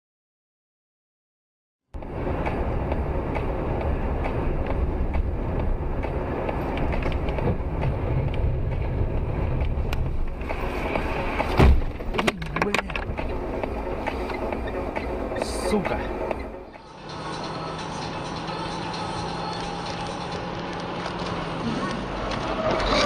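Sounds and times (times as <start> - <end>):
car road and engine noise: 1.9 - 23.0.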